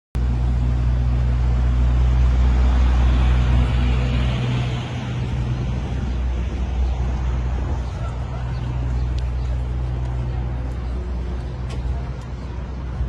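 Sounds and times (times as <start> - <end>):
city street noise: 0.2 - 13.0
truck engine idling: 0.2 - 13.0.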